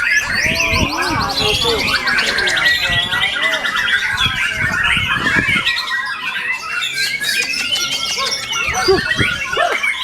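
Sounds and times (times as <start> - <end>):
bird singing whistles and chatter: 0.0 - 10.0.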